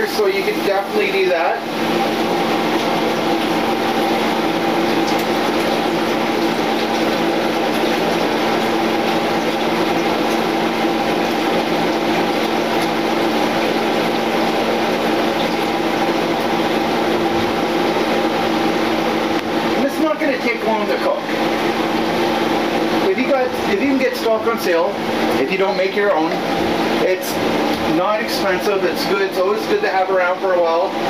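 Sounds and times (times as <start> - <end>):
kitchen fan whirring: 0.0 - 31.0.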